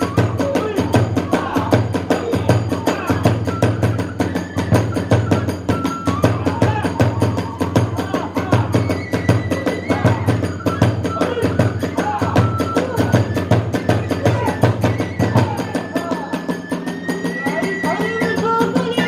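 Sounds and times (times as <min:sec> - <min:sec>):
bamboo flute melody: 0:00.0 - 0:19.0
taiko drums: 0:00.0 - 0:19.0.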